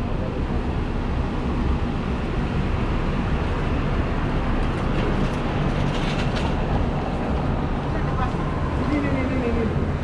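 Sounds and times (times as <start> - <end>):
low rumble of passing traffic: 0.0 - 10.0.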